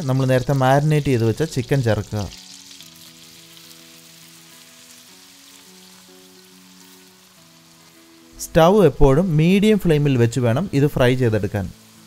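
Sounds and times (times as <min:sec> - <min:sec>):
chicken sizzling in butter: 0:00.0 - 0:10.1, 0:10.9 - 0:12.0
soft background music: 0:00.0 - 0:12.0.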